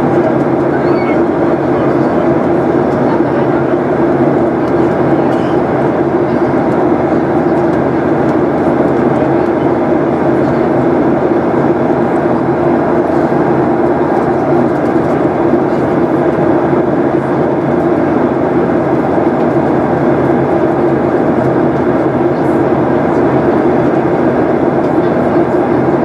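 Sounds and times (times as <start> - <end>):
airplane cabin engine roar: 0.0 - 26.0.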